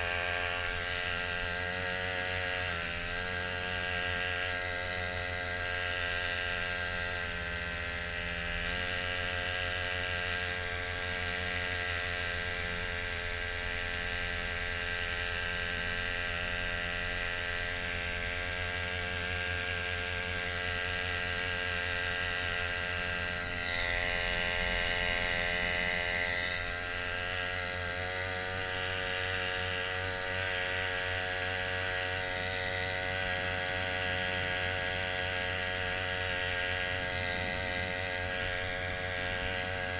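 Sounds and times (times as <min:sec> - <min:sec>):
outboard motor whirring: 0:00.0 - 0:39.9.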